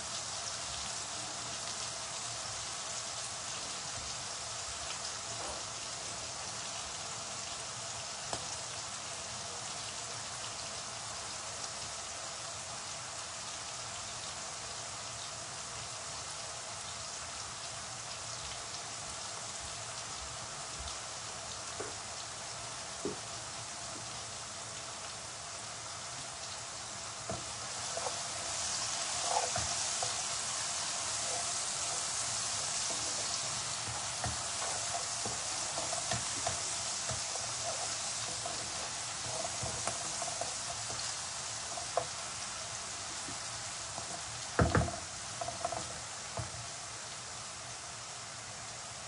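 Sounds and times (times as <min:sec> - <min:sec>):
onions sizzling in oil: 0:00.0 - 0:49.0.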